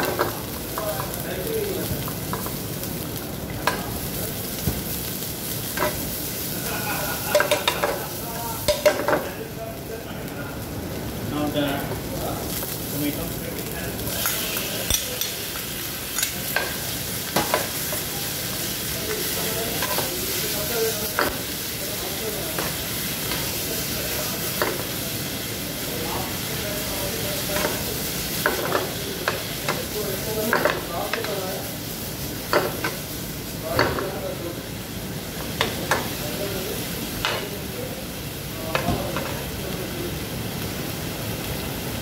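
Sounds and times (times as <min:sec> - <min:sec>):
vegetables sizzling in a frying pan: 0:00.0 - 0:42.0.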